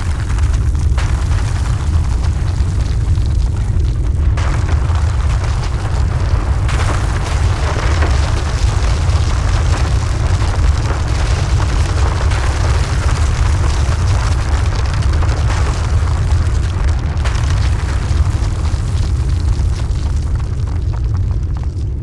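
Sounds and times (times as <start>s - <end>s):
noisy rushing: 0.0s - 19.8s
deep earthquake rumble: 0.0s - 22.0s.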